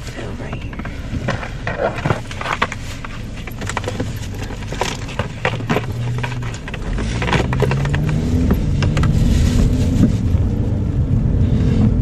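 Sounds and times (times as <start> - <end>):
cardboard box and bag rustling: 0.0 - 10.4
car engine idling: 0.0 - 12.0.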